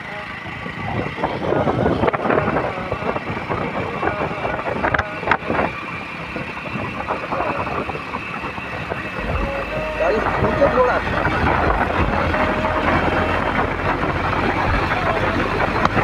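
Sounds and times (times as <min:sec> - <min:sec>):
motorcycle engine riding: 0:00.0 - 0:16.0
wind rushing over microphone: 0:00.0 - 0:16.0.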